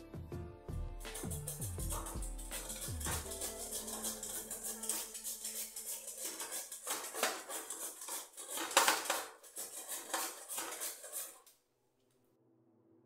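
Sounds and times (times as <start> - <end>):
utensil scraping steel vessel: 1.0 - 11.5.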